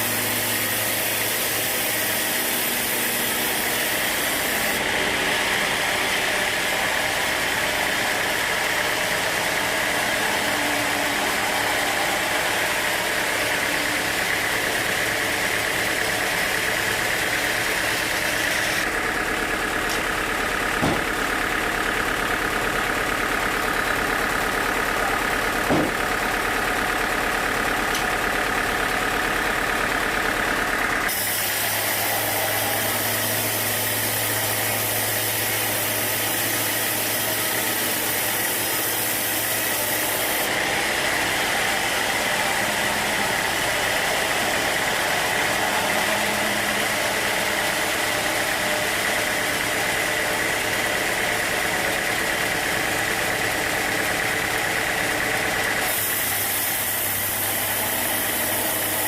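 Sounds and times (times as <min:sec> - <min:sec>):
sawmill machinery droning: 0:00.0 - 0:59.0.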